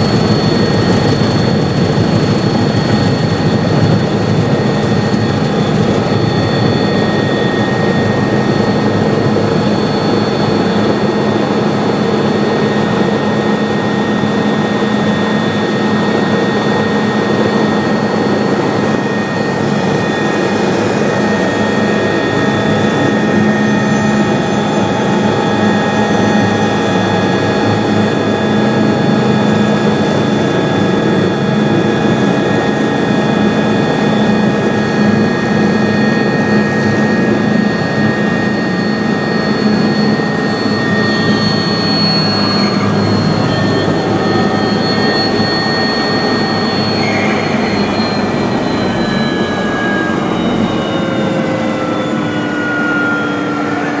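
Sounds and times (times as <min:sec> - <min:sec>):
helicopter rotor: 0:00.0 - 0:54.0
helicopter turbine whine: 0:00.0 - 0:54.0.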